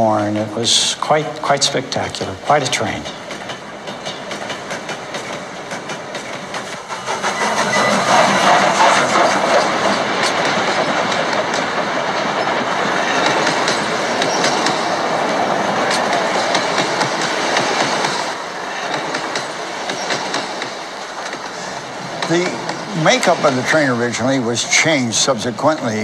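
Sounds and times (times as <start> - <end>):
rail joint clicks: 0.0 - 26.0
steel wheels rushing on rails: 0.0 - 26.0.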